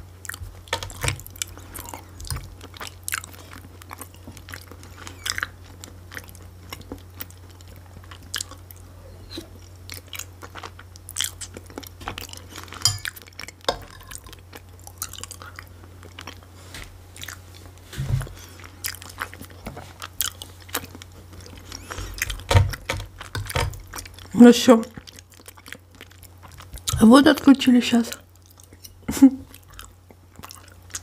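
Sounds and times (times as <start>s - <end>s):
person chewing: 0.1s - 24.4s, 25.0s - 27.0s, 28.2s - 31.0s.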